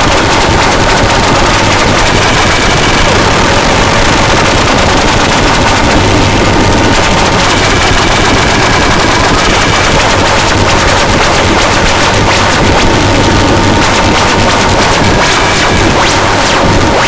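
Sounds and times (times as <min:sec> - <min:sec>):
distorted noise music: 0:00.0 - 0:17.0.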